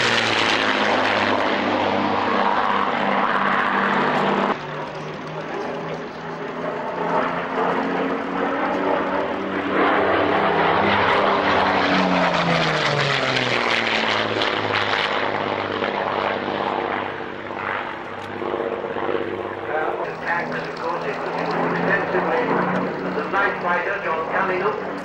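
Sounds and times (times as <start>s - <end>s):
propeller aircraft engine drone: 0.0s - 25.0s.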